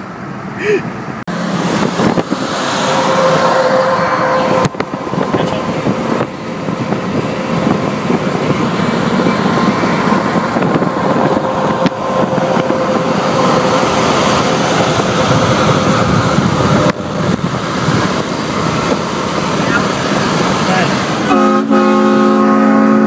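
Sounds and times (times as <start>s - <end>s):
vehicle road and wind noise: 0.0s - 23.0s.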